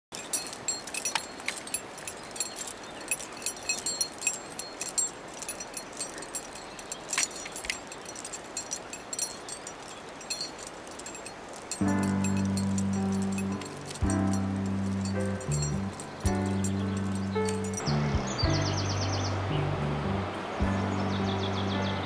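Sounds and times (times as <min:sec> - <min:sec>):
metal climbing gear clinking: 0:00.1 - 0:18.8
steady hiss: 0:00.2 - 0:21.3.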